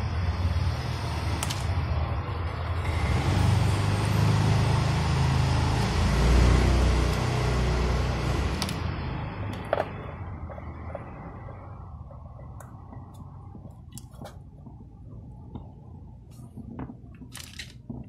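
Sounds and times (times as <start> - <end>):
vehicle engine and tyre rumble: 0.0 - 18.0.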